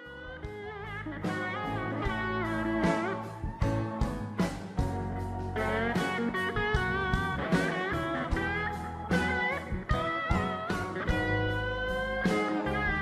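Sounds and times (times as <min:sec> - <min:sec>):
guitar with bending notes: 0:00.0 - 0:13.0
steady bass: 0:00.0 - 0:13.0.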